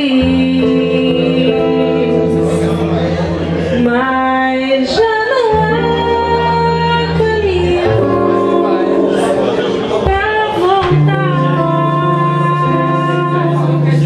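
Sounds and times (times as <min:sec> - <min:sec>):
woman singing: 0:00.0 - 0:02.5, 0:03.8 - 0:09.4, 0:10.0 - 0:14.0
acoustic guitar: 0:00.0 - 0:14.0.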